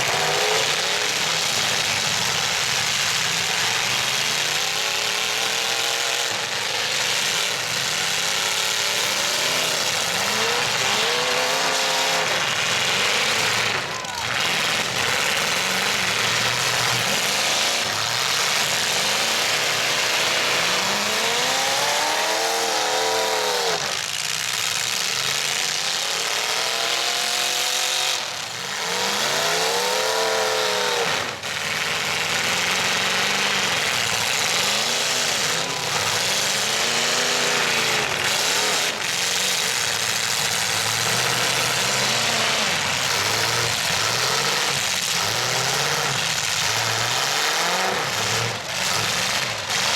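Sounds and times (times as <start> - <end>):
truck engines revving: 0.0 - 49.9.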